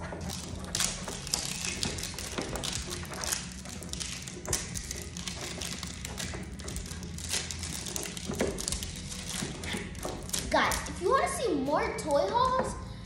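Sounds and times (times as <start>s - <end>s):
packaging crinkling: 0.0s - 11.0s
plastic toy cups tapping and clicking: 0.0s - 11.0s.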